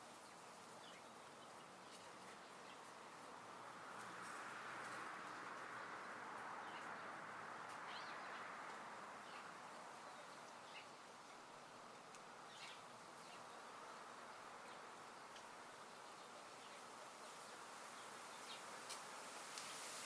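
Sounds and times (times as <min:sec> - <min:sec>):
soft outdoor hiss: 0:00.0 - 0:20.0.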